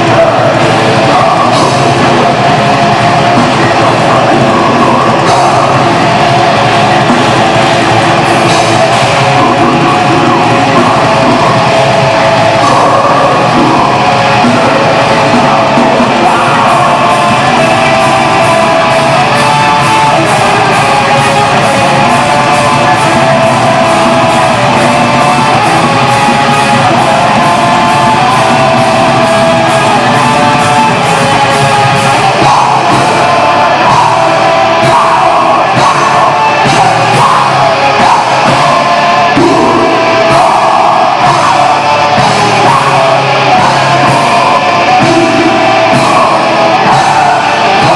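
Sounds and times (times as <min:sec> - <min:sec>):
distorted electric guitars: 0:00.0 - 0:47.9
fast drumming: 0:00.0 - 0:47.9
shouted vocals: 0:00.0 - 0:47.9.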